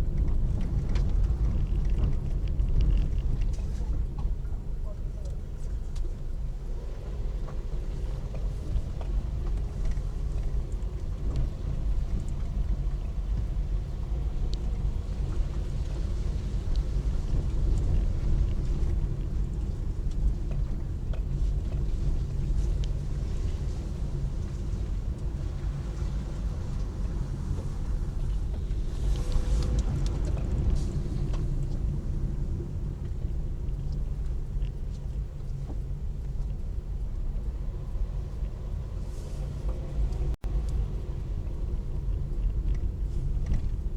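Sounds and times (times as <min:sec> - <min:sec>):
road vehicle rumble: 0:00.0 - 0:43.9.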